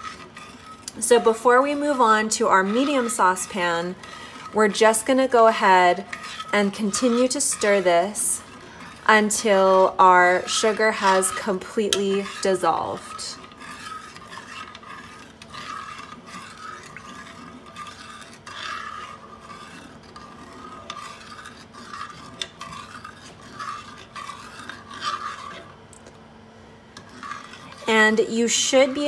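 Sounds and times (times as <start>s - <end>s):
metal spoon scraping a saucepan: 0.0s - 25.8s, 27.0s - 29.0s.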